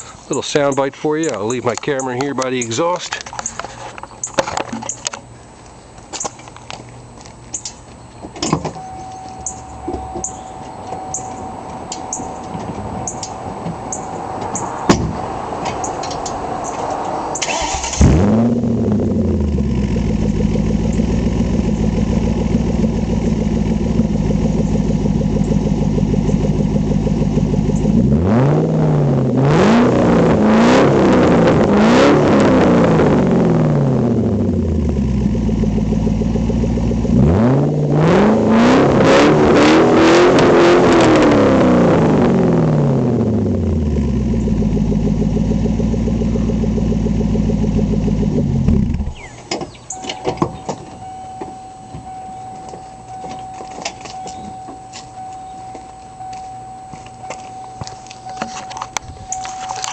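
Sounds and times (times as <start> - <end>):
car engine idling and revving: 1.2 - 59.9.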